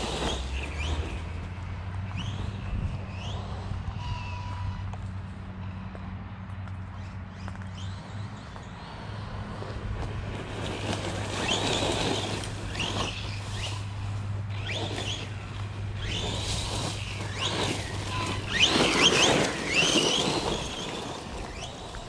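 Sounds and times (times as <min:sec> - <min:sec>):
rough rushing noise: 0:00.0 - 0:04.8, 0:09.0 - 0:22.0
electric motor whining in sweeps: 0:00.0 - 0:04.9, 0:07.8 - 0:22.0.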